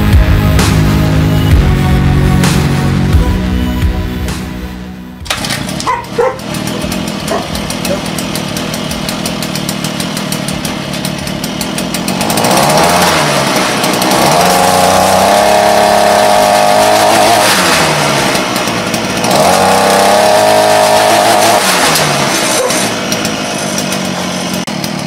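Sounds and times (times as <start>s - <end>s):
two-stroke engine revving: 0.0s - 25.0s.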